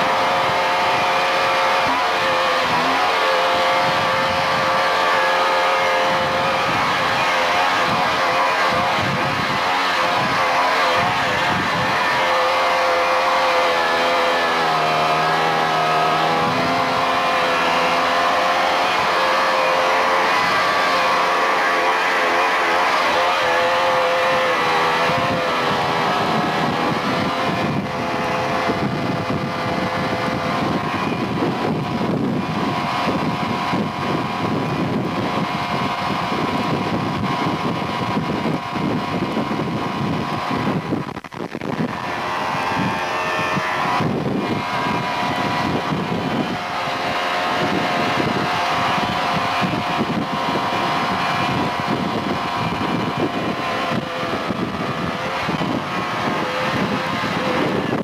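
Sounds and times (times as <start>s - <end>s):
motor running with pitched hum: 0.0s - 58.0s.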